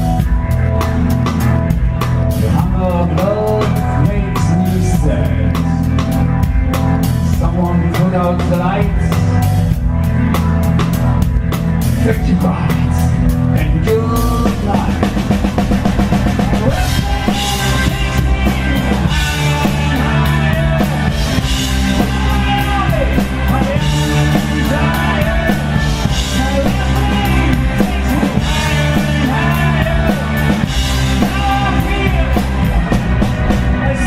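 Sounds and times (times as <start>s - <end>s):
blues-rock band playing: 0.0s - 34.0s
lead vocal singing: 2.4s - 6.2s, 7.1s - 9.6s, 12.0s - 34.0s.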